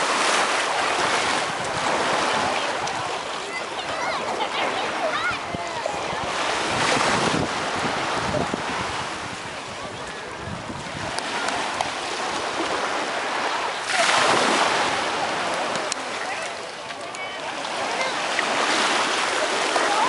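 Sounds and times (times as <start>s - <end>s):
small waves washing onto sand: 0.0s - 20.0s.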